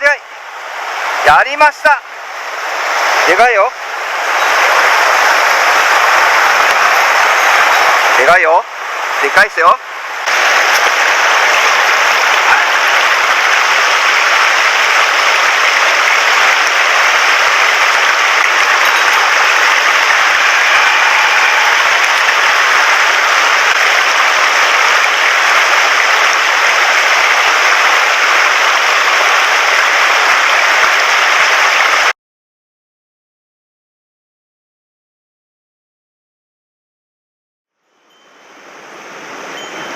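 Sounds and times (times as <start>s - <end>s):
fast-flowing stream rushing: 0.2s - 32.1s, 38.4s - 39.9s.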